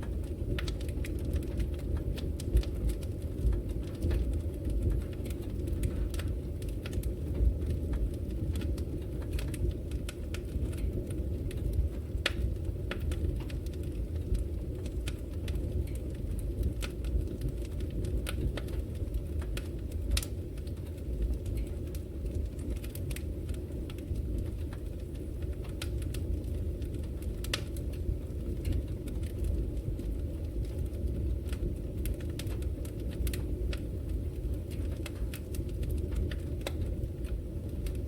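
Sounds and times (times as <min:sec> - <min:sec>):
fire low rumble: 0:00.0 - 0:38.0
wood fire crackling: 0:00.0 - 0:38.0.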